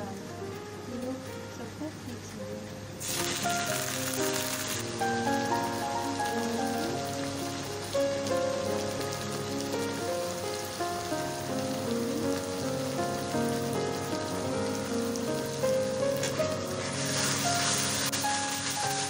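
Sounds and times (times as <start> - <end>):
instrumental background music: 0.0 - 19.0
onions sizzling in hot oil: 0.0 - 19.0.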